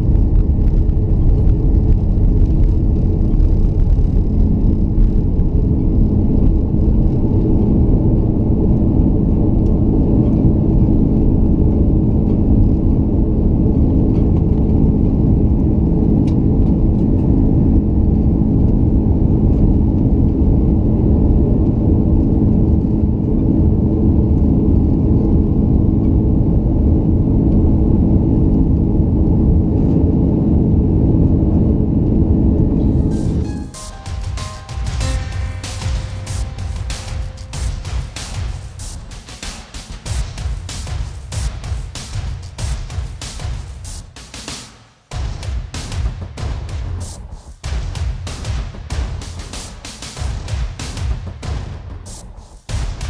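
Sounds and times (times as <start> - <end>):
jet engines rumbling in cabin: 0.0 - 44.6.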